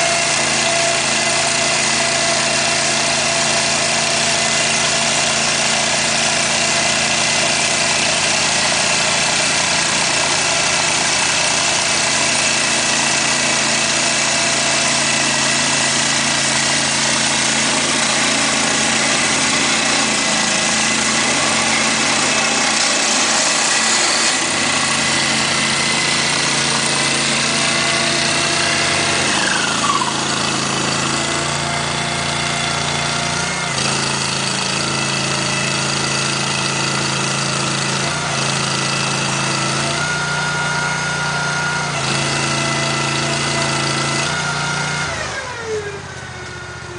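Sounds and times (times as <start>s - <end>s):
digging machine engine running: 0.0s - 46.9s.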